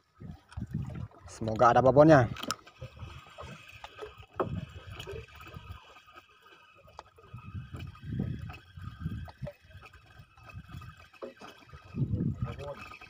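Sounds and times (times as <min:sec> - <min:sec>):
water lapping against wooden boat: 0:00.0 - 0:13.0.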